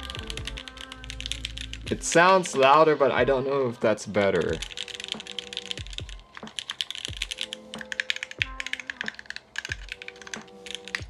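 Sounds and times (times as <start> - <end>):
mechanical keyboard typing: 0.0 - 2.8, 4.1 - 11.0.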